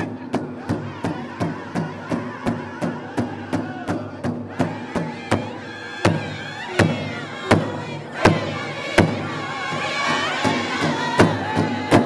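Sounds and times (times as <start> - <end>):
big drum beats: 0.0 - 12.0
men singing in chorus: 0.0 - 12.0
women singing: 0.0 - 12.0.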